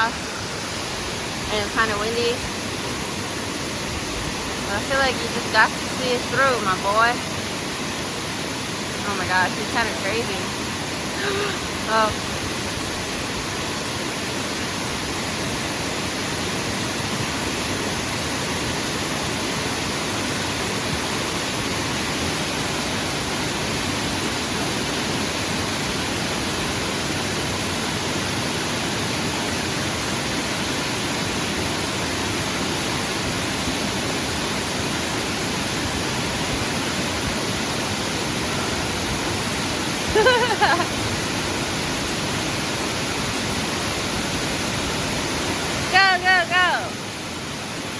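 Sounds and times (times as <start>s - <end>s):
waterfall rushing water: 0.0s - 47.9s.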